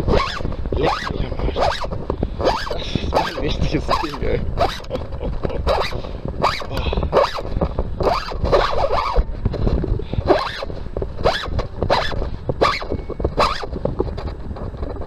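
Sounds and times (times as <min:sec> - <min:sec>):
sharp rasping scrapes: 0:00.0 - 0:09.3, 0:10.1 - 0:14.3
steady low rumble: 0:00.0 - 0:15.0.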